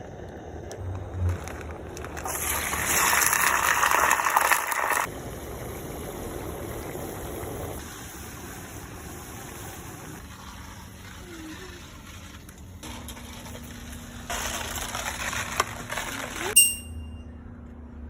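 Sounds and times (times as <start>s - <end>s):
fries sizzling in hot oil: 1.5s - 16.6s.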